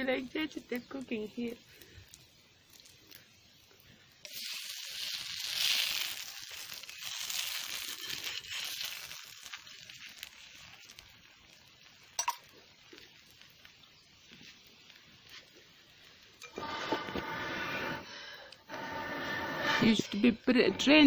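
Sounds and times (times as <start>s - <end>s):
omelette sizzling in a pan: 0.0s - 21.0s.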